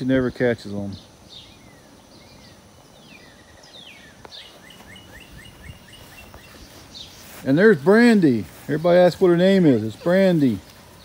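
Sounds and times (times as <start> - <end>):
bird chirping rapidly: 0.0 - 11.0.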